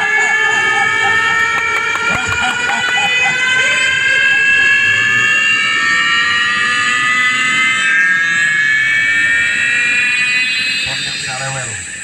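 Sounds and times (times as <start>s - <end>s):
electronic riser over sound system: 0.0s - 12.0s.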